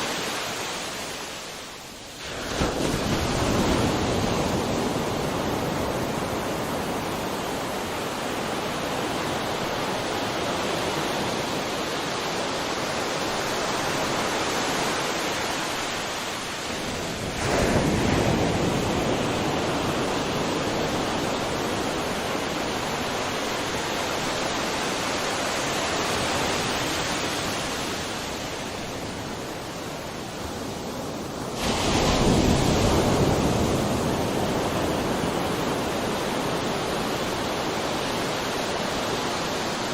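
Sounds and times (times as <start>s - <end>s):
sea surf hiss: 0.0s - 39.9s
waves breaking: 0.0s - 39.9s.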